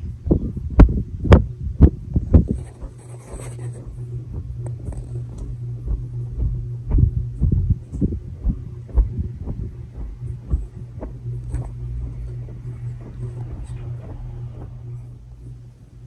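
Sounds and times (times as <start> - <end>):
air buffeting microphone thumps: 0.0 - 15.7
ceiling fan motor hum: 0.0 - 16.0.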